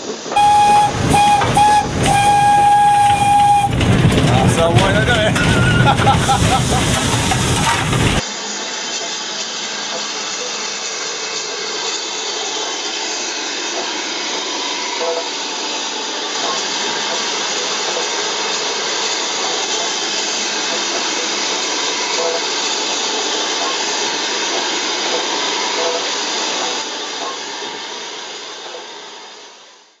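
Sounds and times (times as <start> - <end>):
steam hissing from locomotive: 0.0 - 30.0.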